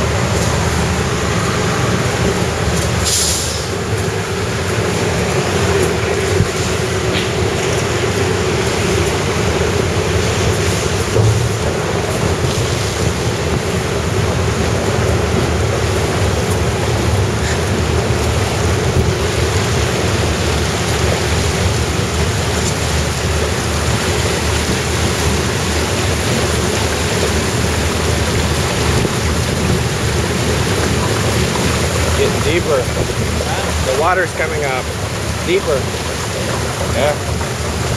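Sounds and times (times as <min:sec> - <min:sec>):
train rushing through water: 0:00.0 - 0:37.9
wind buffeting microphone: 0:00.0 - 0:37.9.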